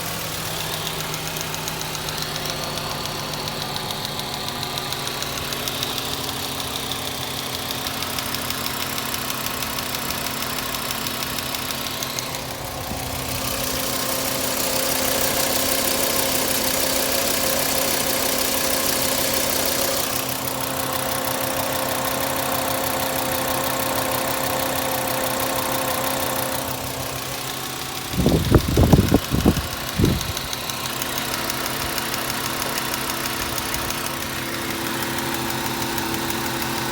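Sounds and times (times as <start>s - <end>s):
car engine running steadily: 0.0s - 36.9s.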